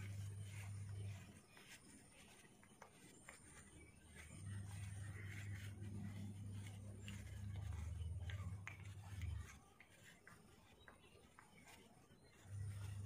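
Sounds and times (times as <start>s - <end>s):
hand kneading damp mash: 0.0s - 13.0s
low steady hum: 0.0s - 13.0s.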